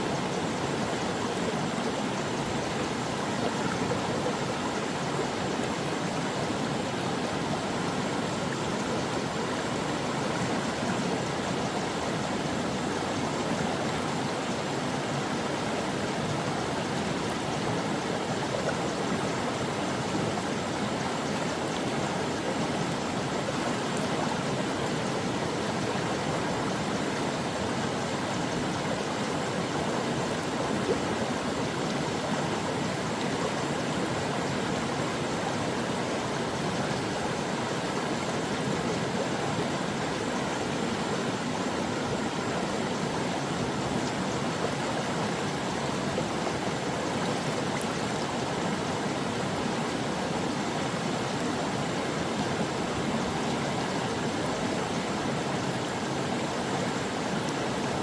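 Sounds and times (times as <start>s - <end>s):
water flowing over rocks: 0.0s - 58.0s.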